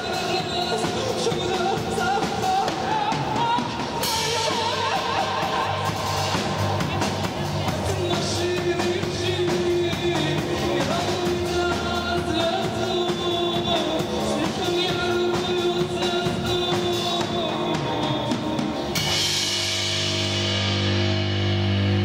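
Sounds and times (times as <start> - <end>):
person singing: 0.0 - 19.3
drum kit: 0.0 - 22.0
electric bass: 0.0 - 22.0.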